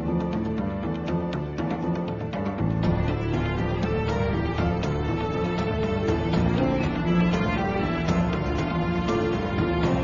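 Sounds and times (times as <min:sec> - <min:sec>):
instrumental music with light beat: 0:00.0 - 0:10.0.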